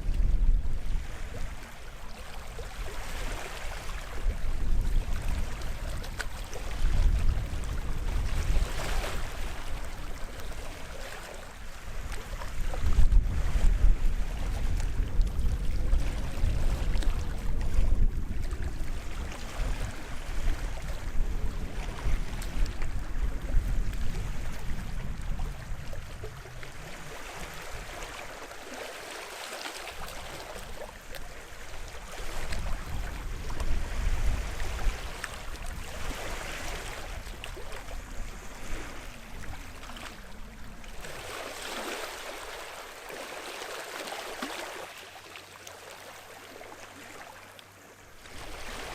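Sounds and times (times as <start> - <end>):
wind rumble on microphone: 0.0 - 29.0, 29.9 - 43.0, 48.0 - 48.9
waves washing onto shore: 0.0 - 48.9.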